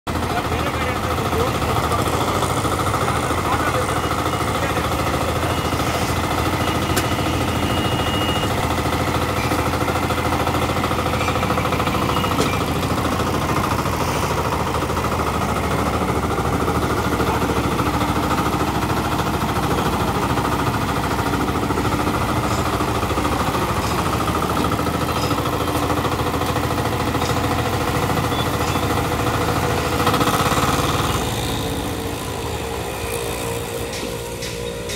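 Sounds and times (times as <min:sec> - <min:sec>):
power weeder engine running: 0:00.1 - 0:34.9.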